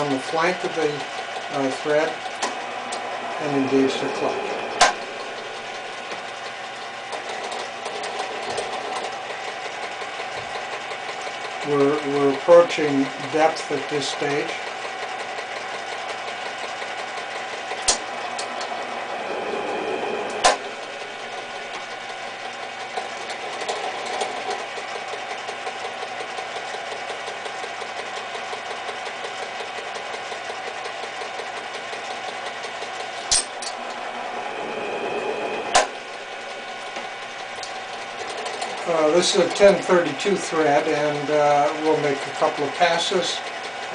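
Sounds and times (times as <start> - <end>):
lathe running: 0.0 - 43.9.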